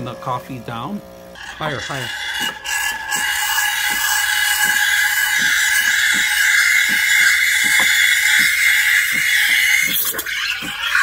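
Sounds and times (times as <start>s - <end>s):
steam wand hissing in milk: 1.4s - 11.0s.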